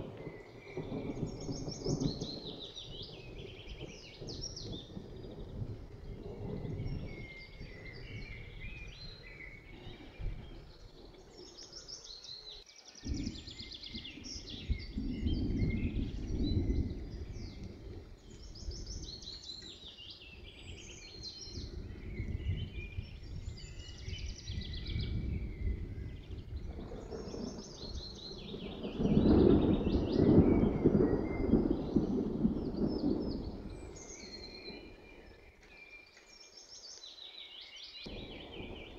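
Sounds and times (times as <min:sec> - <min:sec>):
thunder rumbling: 0:00.0 - 0:11.8, 0:13.1 - 0:35.6, 0:38.1 - 0:38.9
birds singing: 0:00.0 - 0:38.9.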